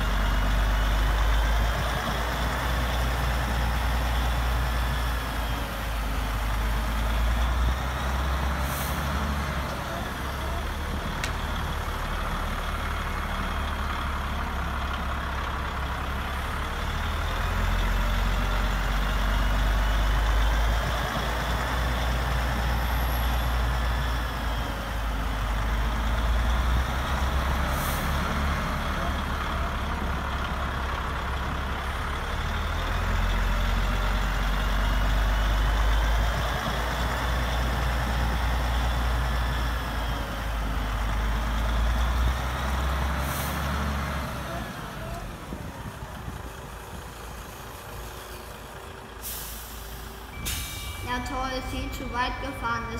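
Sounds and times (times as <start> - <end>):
model trucks low rumble: 0.0 - 52.9.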